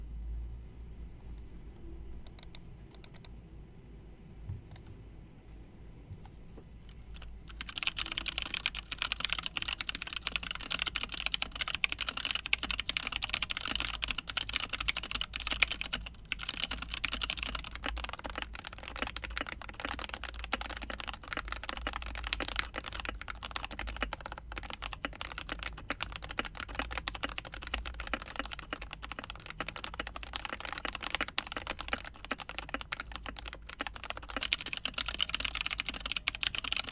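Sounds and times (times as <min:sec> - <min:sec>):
typing on mechanical keyboard: 0:07.1 - 0:36.9.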